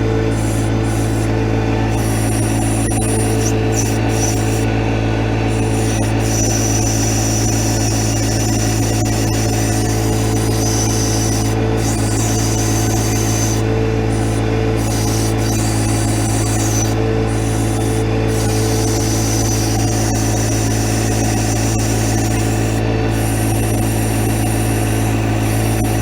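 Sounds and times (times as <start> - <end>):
high whine: 0.0 - 26.0
tractor diesel engine running: 0.0 - 26.0.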